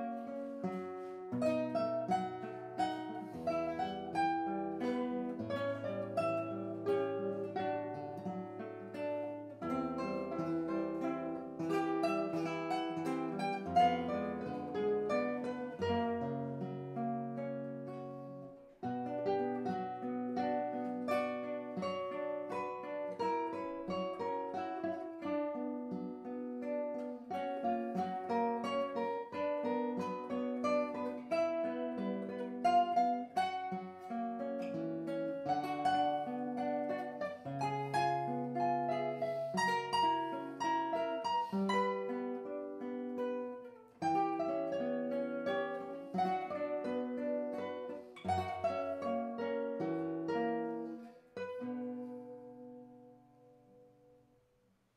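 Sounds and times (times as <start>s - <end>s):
classical guitar duet: 0.0s - 54.9s.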